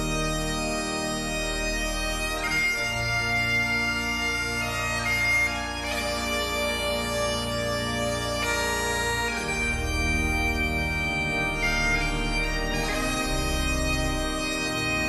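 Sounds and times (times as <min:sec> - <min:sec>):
bagpipes playing slow tune: 0:00.0 - 0:15.0.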